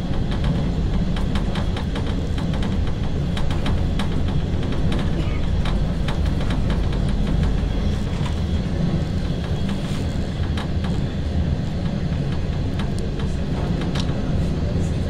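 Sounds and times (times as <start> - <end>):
train clicks and rattles: 0.0 - 15.0
train wheels rumbling on rails: 0.0 - 15.0.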